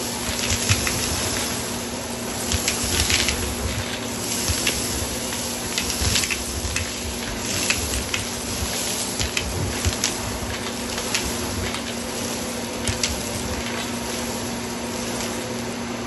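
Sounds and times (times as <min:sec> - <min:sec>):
grains rattling up vacuum wand: 0:00.0 - 0:16.0
stick vacuum motor hum: 0:00.0 - 0:16.0.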